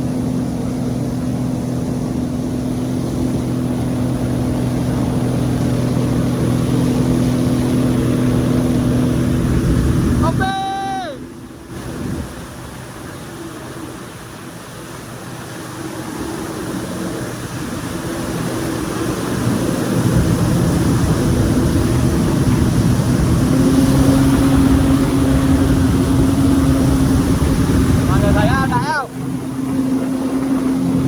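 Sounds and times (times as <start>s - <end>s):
jet ski engine running: 0.0s - 31.0s.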